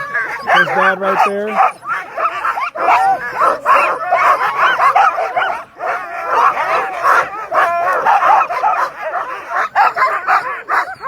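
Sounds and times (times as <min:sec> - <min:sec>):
sled dogs barking and yipping: 0:00.0 - 0:11.0.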